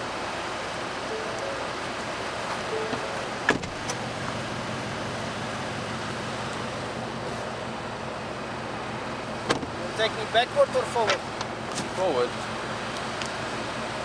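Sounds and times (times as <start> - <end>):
pickup engine running: 0.0 - 14.0.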